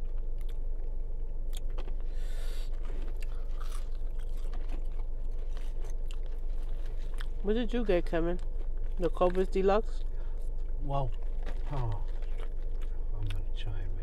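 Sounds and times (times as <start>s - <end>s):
chewing crisp food: 0.0s - 14.0s
steady low hum: 0.0s - 14.0s.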